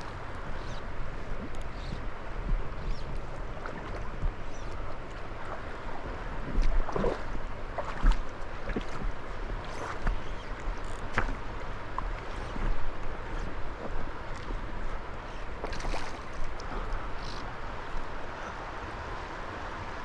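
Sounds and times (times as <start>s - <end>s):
river water running: 0.0s - 20.0s
wind rumble on microphone: 0.0s - 20.0s.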